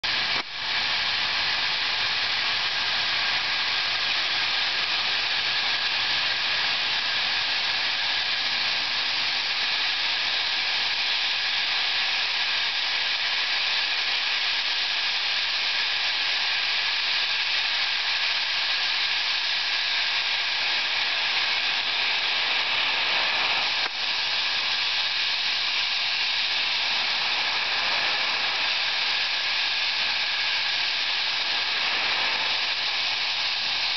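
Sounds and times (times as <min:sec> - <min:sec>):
steam hissing from locomotive: 0:00.0 - 0:33.9.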